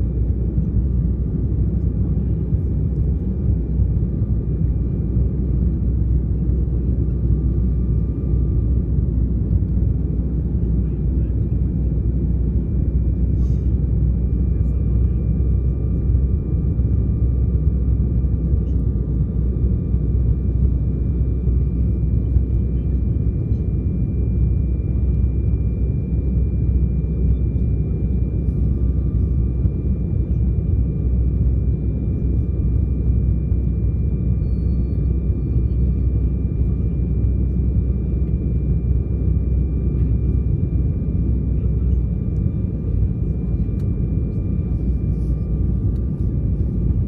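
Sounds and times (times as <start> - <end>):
aircraft cabin rumble: 0.0 - 47.0
faint jet engine whine: 0.0 - 47.0.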